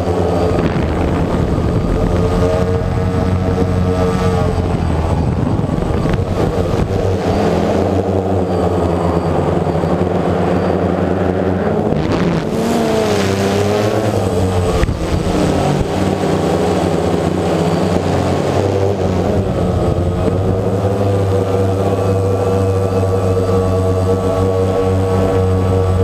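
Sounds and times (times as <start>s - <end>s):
drone propellers buzzing: 0.0s - 26.0s.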